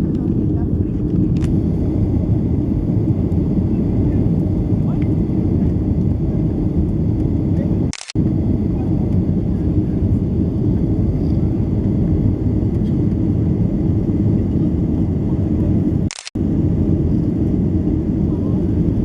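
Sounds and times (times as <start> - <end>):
jet engines rumbling in cabin: 0.0 - 19.0.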